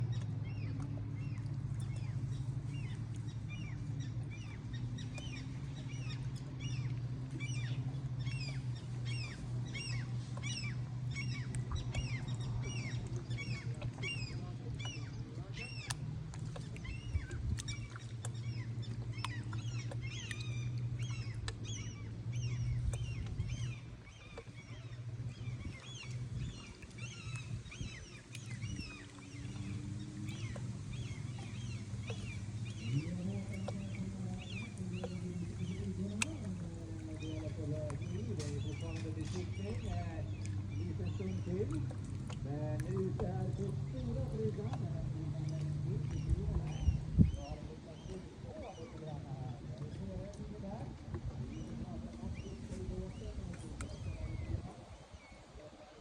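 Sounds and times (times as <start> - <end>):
low hum: 0.0 - 55.9
birds chirping: 0.0 - 56.0.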